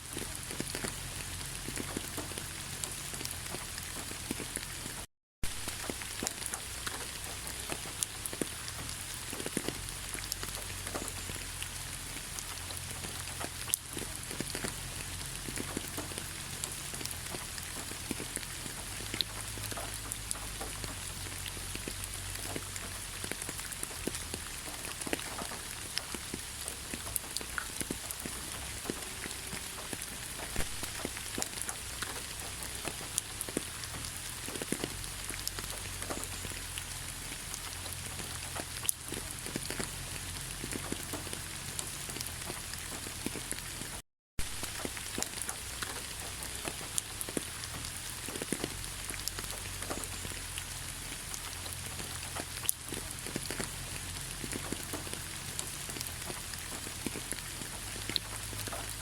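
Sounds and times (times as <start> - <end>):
raindrops pattering close by: 0.0 - 59.0
steady rain falling: 0.0 - 59.0.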